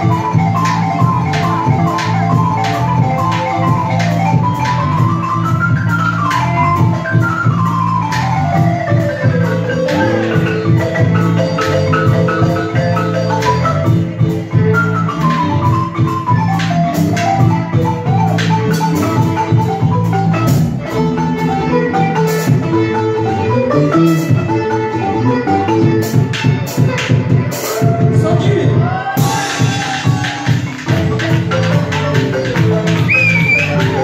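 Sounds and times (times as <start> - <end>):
balafon played with mallets: 0.0 - 27.9, 29.2 - 34.0
bass line: 0.0 - 34.0
percussion: 0.0 - 34.0.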